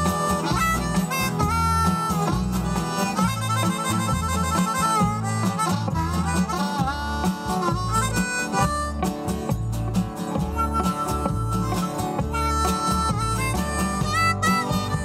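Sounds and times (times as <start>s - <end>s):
bass line: 0.0s - 15.0s
high lead line with bent notes: 0.0s - 15.0s
live band playing instrumental: 0.0s - 15.0s.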